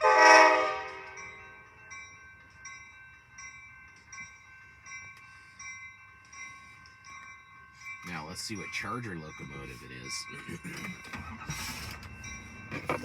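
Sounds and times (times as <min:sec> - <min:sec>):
train warning bell ringing: 0:00.0 - 0:13.0.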